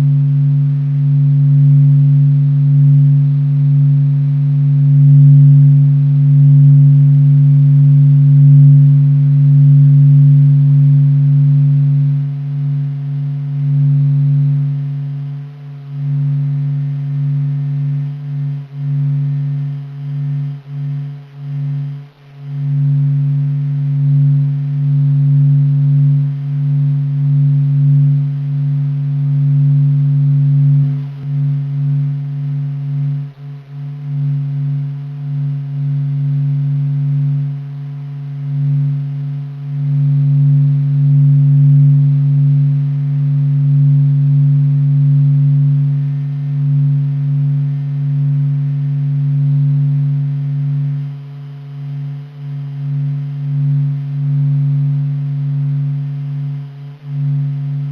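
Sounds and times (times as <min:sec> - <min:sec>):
low drone with tones: 0:00.0 - 0:57.9.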